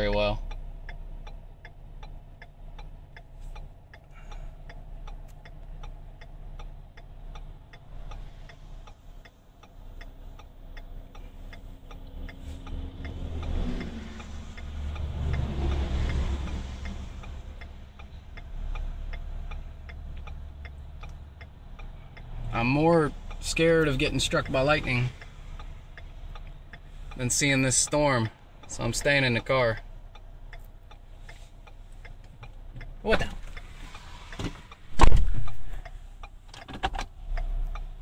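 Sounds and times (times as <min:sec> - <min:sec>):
car engine idling: 0:00.0 - 0:38.0
car indicator ticking: 0:00.0 - 0:38.0.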